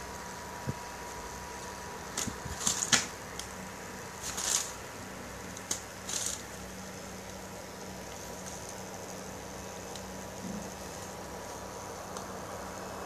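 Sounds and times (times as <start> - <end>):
steady background hum: 0.0 - 13.0
plastic bag crinkling: 1.1 - 12.2.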